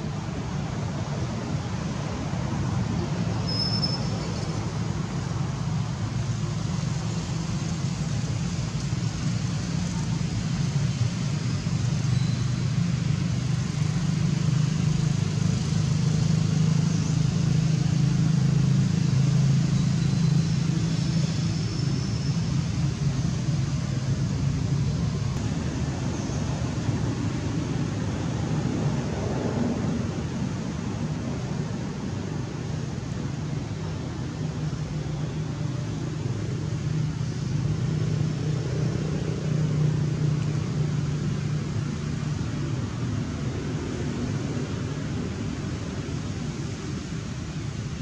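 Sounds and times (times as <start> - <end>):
low outdoor rumble: 0.0 - 48.0.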